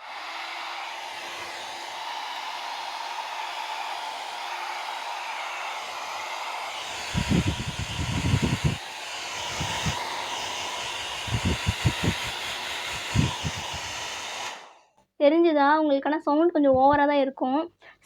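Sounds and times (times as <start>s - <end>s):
hair dryer whirring: 0.0s - 14.8s.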